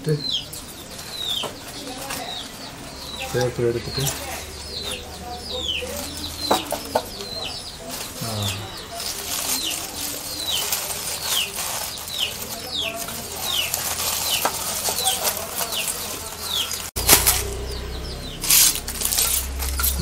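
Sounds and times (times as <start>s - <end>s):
small bird chirping: 0.0s - 20.0s
aluminium foil crinkling: 0.5s - 2.6s, 3.2s - 17.6s, 18.4s - 20.0s.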